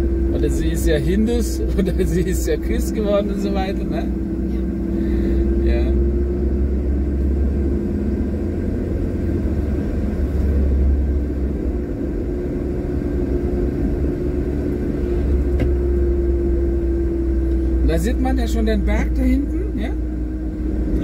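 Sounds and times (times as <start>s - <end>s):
constant hum: 0.0s - 21.0s
engine and road rumble: 0.0s - 21.0s.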